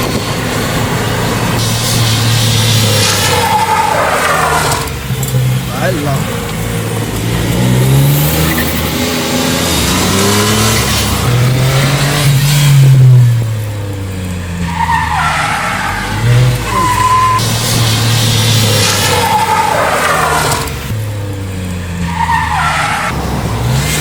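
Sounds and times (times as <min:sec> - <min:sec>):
tyres squealing: 0:00.0 - 0:13.3, 0:14.5 - 0:21.0, 0:21.9 - 0:24.0
rally car engine revving: 0:00.0 - 0:24.0.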